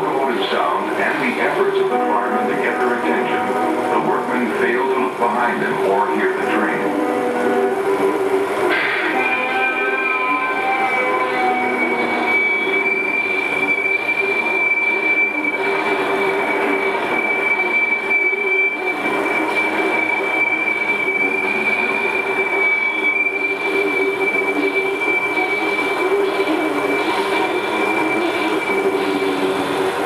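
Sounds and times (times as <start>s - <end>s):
freight train rumbling: 0.0s - 30.0s
high-pitched whine: 0.0s - 30.0s.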